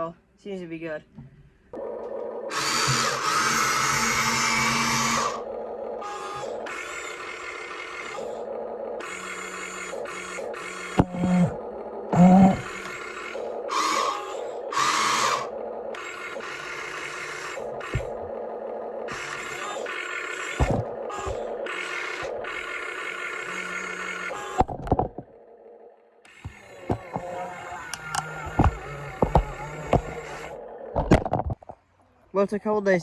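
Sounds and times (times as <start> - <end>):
toy excavator motors whirring: 1.7 - 31.8.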